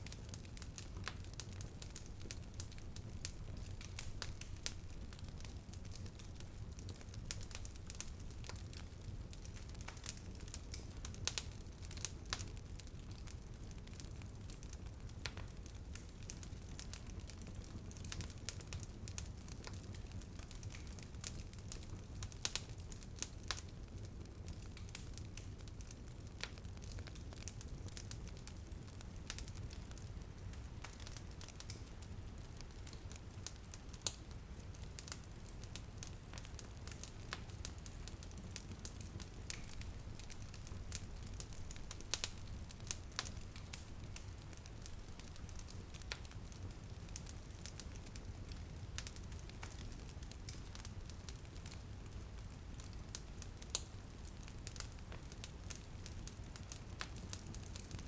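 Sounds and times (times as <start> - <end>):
light rain on a window: 0.0 - 58.0
wood fire crackling: 0.0 - 58.0.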